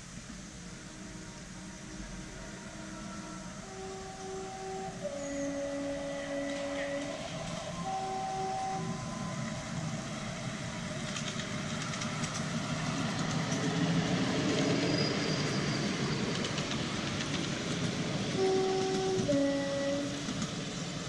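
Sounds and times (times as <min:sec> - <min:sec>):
train wheels rumbling and clicking: 0:00.0 - 0:21.0.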